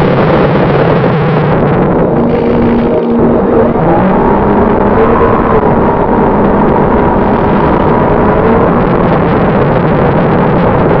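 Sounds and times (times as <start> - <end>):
faint motor whine: 0.0 - 11.0
wind rush on microphone: 0.0 - 11.0.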